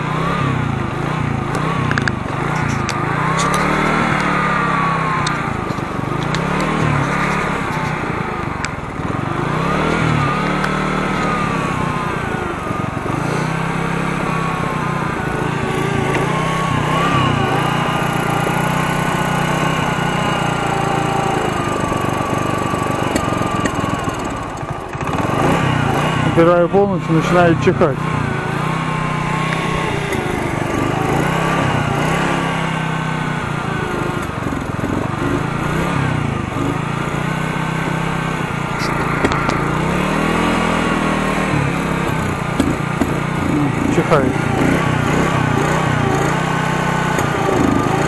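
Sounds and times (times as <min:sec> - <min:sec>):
moped engine warming up: 0:00.0 - 0:48.0.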